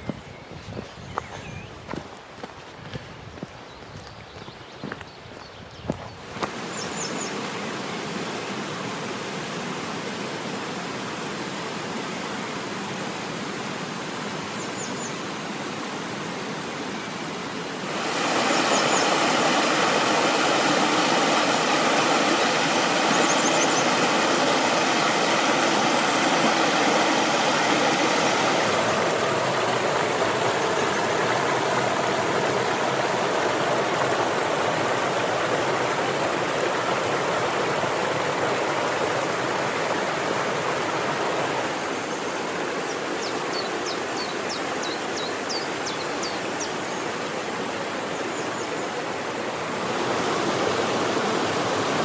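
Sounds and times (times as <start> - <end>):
stream rushing over rocks: 6.2 - 52.0.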